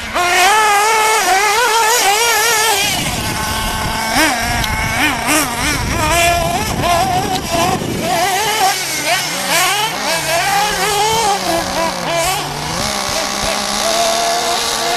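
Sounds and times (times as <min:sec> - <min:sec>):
small nitro engine revving: 0:00.0 - 0:14.9.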